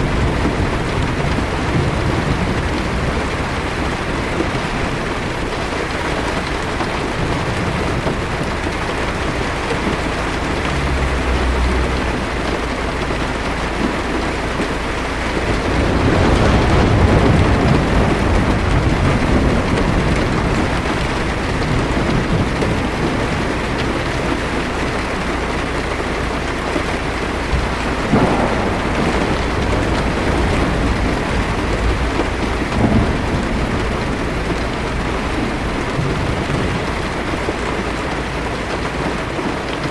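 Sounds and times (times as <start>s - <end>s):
sharp thunder cracks: 0.0s - 23.3s, 27.4s - 37.6s
heavy rain on a car: 0.0s - 39.9s
thunder rumbling: 0.0s - 39.9s.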